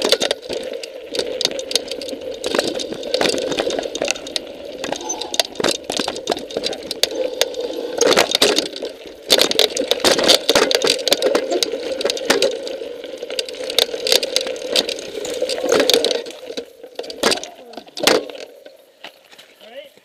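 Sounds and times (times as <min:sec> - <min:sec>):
mountain bike rattling over rocks: 0:00.0 - 0:20.0
wheels knocking on rocks: 0:00.0 - 0:20.0.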